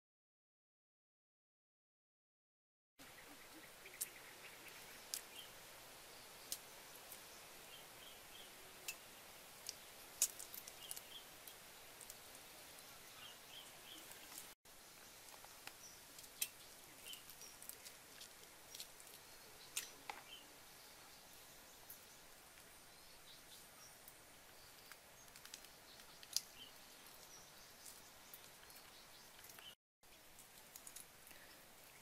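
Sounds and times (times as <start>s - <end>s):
quiet outdoor ambience: 3.0s - 32.0s
small bird chirping: 3.0s - 32.0s.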